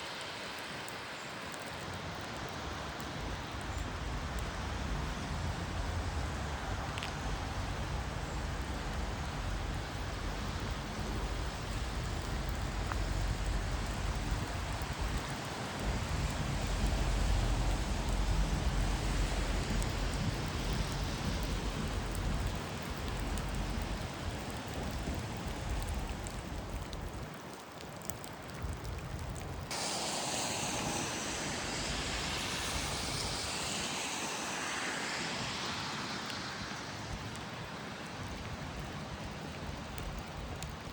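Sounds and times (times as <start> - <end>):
steady rain: 0.0 - 40.9
wind rumbling on microphone: 1.8 - 40.9.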